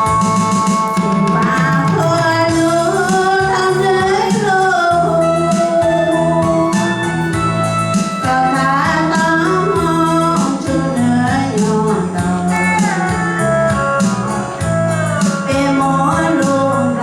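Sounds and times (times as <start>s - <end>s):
keyboard chords with steady beat: 0.0s - 17.0s
person singing: 0.0s - 17.0s.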